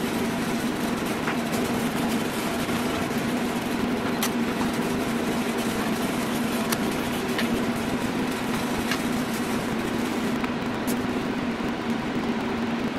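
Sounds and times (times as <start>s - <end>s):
exhaust blowers and fans humming: 0.0s - 12.9s.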